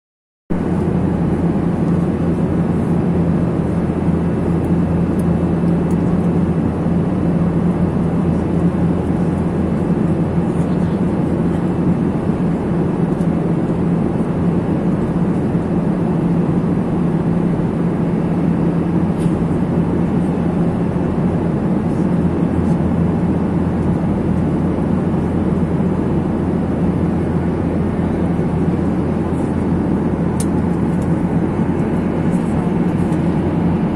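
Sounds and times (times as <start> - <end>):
engine and airflow rush: 0.5 - 33.9
steady low hum: 0.5 - 33.9.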